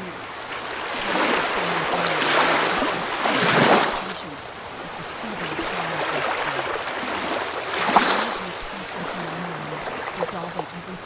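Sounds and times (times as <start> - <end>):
ocean waves washing ashore: 0.0 - 11.0.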